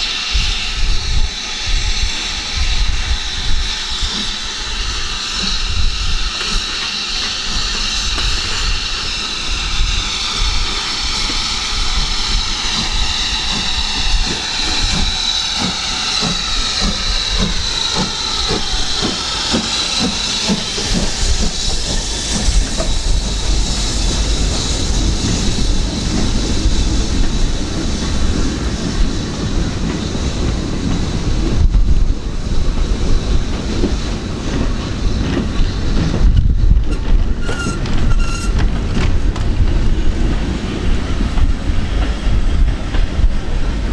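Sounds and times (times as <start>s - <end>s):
steam hissing: 0.0s - 43.9s
steam locomotive rhythmic beats: 0.0s - 43.9s.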